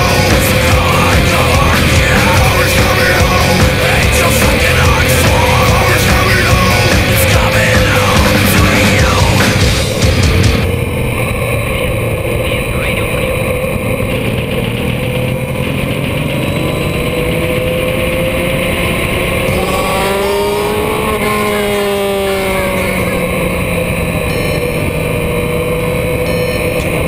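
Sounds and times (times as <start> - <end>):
motorcycle engine running: 0.0 - 27.0
passing engine: 0.0 - 27.0.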